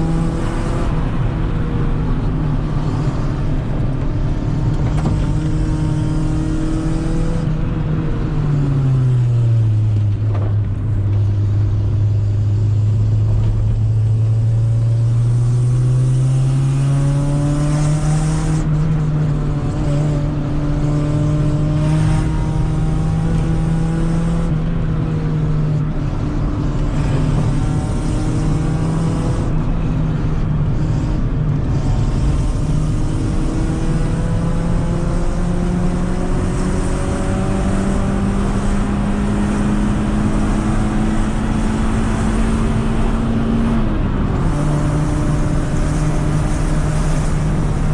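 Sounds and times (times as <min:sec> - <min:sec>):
car engine running: 0:00.0 - 0:47.9.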